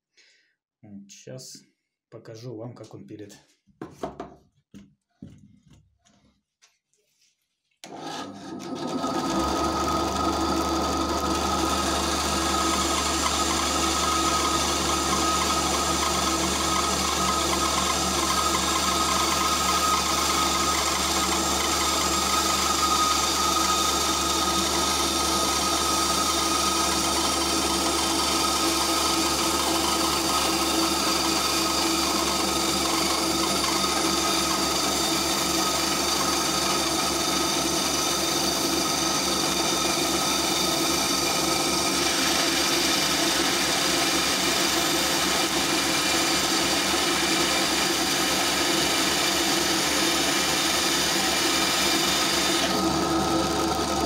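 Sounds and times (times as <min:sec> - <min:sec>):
bandsaw cutting wood: 0:07.8 - 0:54.0.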